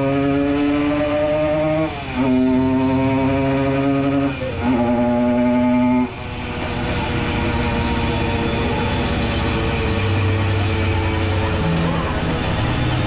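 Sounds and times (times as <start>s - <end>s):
moped engine revving: 0.0s - 13.0s.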